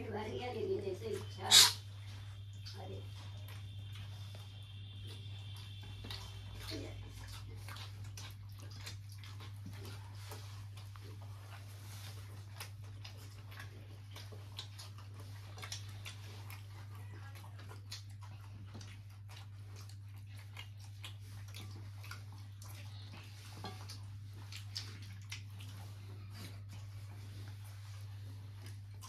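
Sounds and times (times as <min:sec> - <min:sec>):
steady low hum: 0:00.0 - 0:29.0
clicks and taps of eating: 0:02.5 - 0:11.3, 0:12.2 - 0:27.0.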